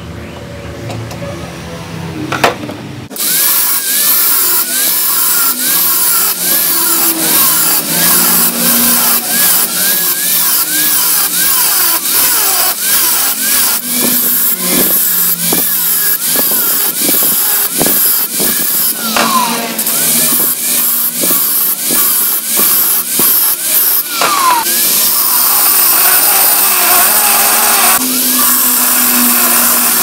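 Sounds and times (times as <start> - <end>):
angle grinder cutting steel: 3.1 - 30.0.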